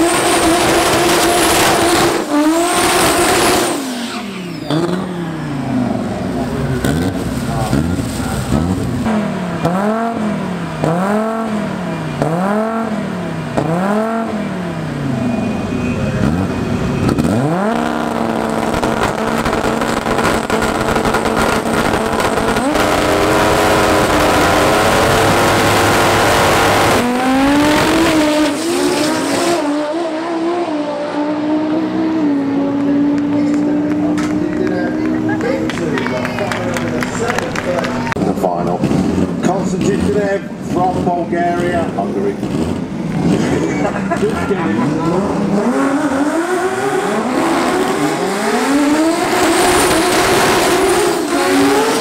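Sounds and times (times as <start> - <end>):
car accelerating through gears: 0.0 - 52.0
car engine revving: 0.0 - 52.0.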